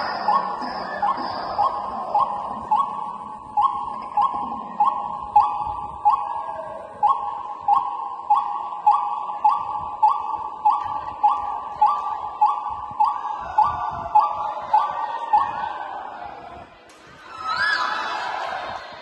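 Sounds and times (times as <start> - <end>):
ringing metallic percussion beat: 0.0 - 15.9.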